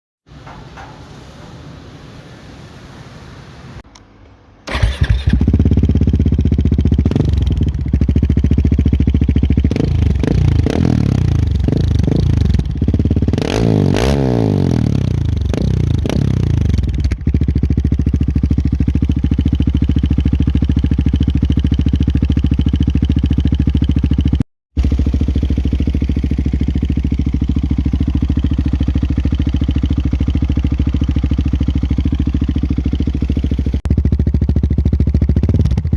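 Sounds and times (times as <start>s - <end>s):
motorcycle engine revving and idling: 4.7s - 35.9s.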